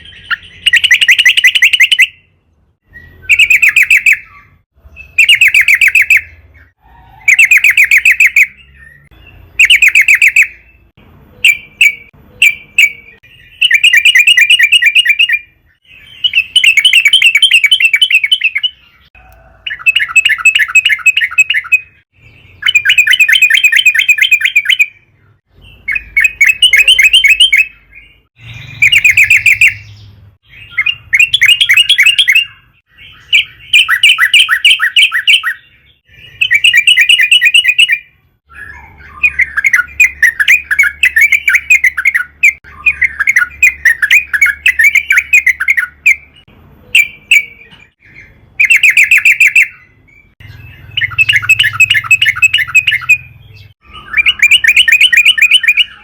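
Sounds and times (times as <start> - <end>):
bird singing bubbling phrases: 0.0 - 56.0.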